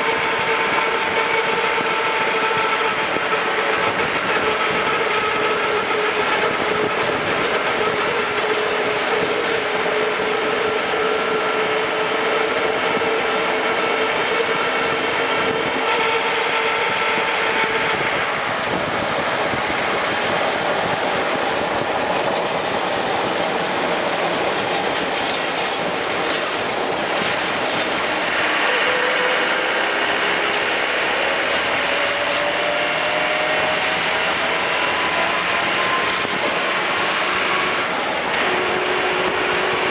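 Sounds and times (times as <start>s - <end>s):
drivetrain whine: 0.0s - 39.9s
vehicle rolling noise: 0.0s - 39.9s.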